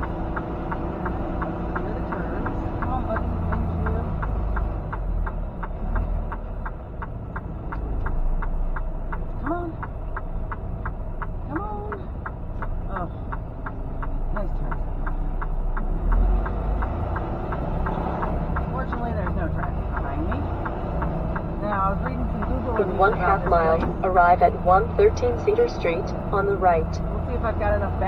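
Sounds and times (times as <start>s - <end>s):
truck engine rumble: 0.0s - 28.0s
turn signal clicking: 0.0s - 28.0s.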